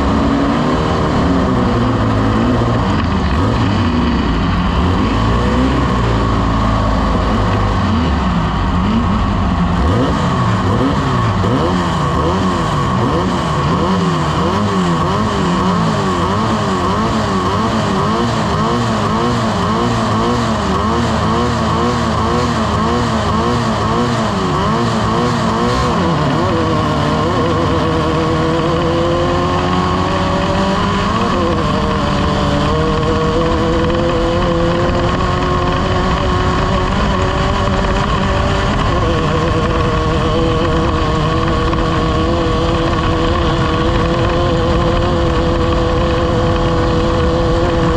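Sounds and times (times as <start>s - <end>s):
race vehicle engine revving: 0.0s - 47.9s.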